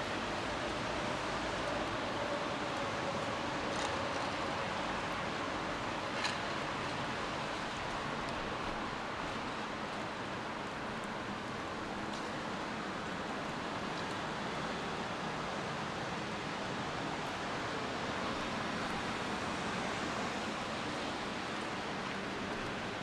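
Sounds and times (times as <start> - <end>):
rain falling on street: 0.0 - 23.0
faint raindrop ticks: 1.4 - 23.0.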